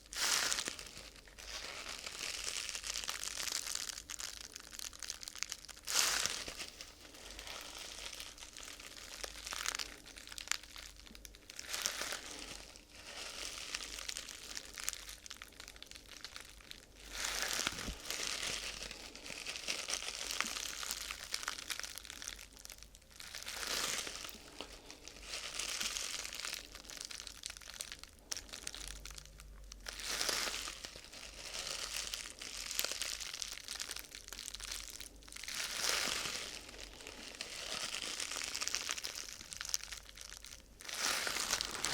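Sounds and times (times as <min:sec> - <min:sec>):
crinkly sheet being crumpled: 0:00.0 - 0:41.9.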